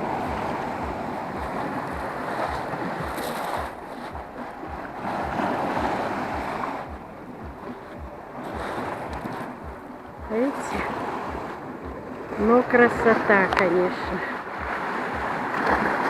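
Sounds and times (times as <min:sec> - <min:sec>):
sea surf washing against rocks: 0:00.0 - 0:16.0.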